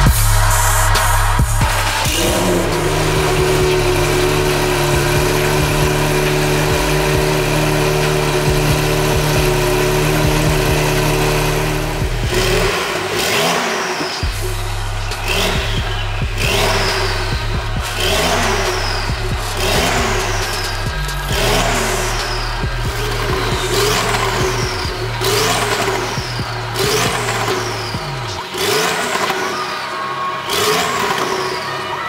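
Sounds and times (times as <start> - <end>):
car engine idling and revving: 0.0 - 29.8, 30.4 - 31.8.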